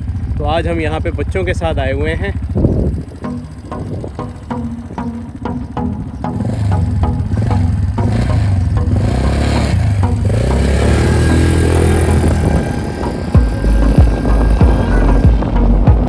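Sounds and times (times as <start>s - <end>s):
quad bike engine: 0.0s - 16.0s.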